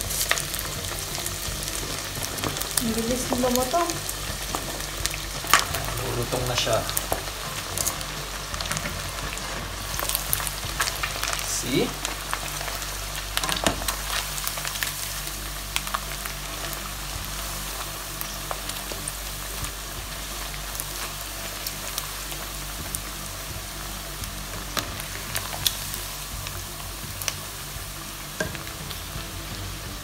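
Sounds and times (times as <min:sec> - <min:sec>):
chicken skins deep-frying: 0:00.0 - 0:30.0.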